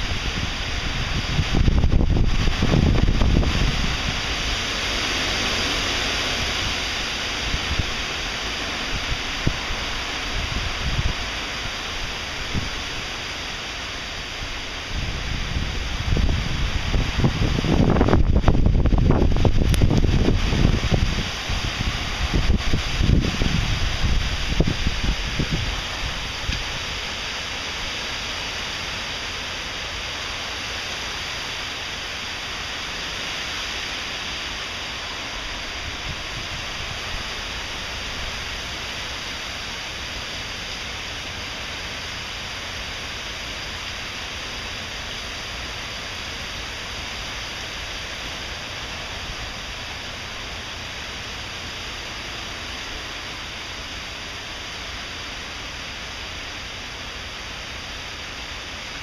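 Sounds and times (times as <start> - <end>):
gusting wind: 0.0 - 59.0
heavy rain pouring: 0.0 - 59.0.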